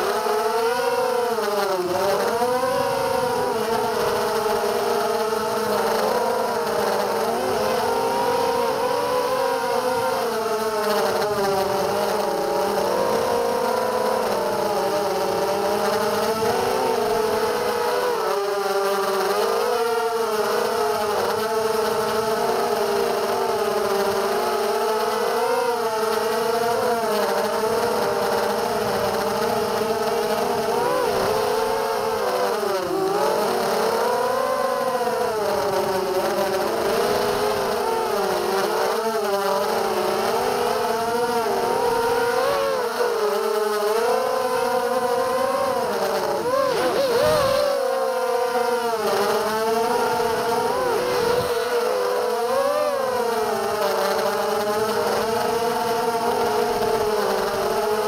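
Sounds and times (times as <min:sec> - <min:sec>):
drone motors whining: 0:00.0 - 0:58.0.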